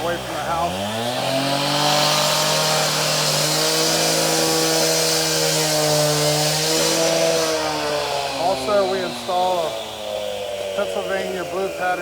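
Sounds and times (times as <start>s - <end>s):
concrete saw cutting: 0.0s - 12.0s.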